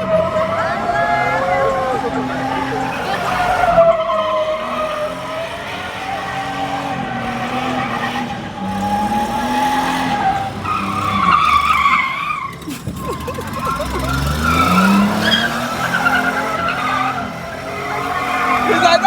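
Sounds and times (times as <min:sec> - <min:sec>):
car engine revving: 0:00.0 - 0:19.0
tires squealing: 0:00.0 - 0:19.0.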